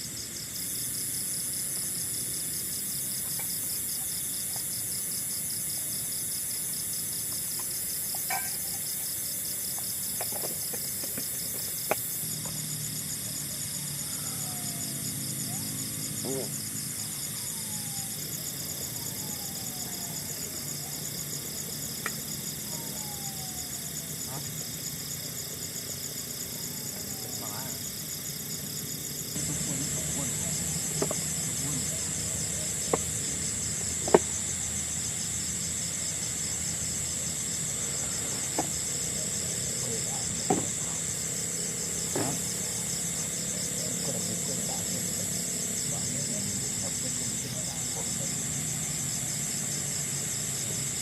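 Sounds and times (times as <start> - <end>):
insects trilling: 0.0 - 51.0.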